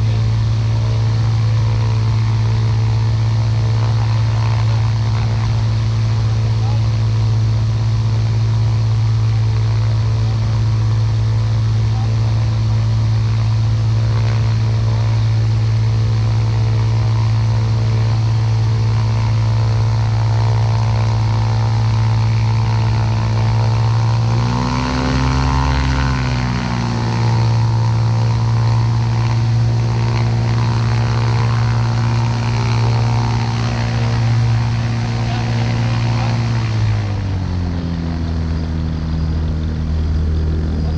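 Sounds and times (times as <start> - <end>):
ultralight aircraft engine and propeller: 0.0 - 40.9.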